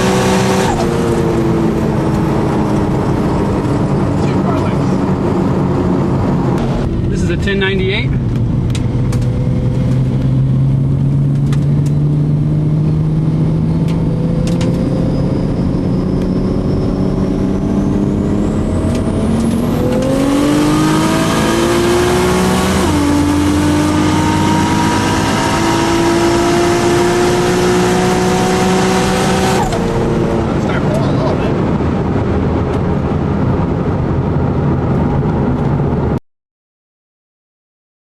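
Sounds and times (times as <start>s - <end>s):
car engine revving: 0.0s - 36.2s.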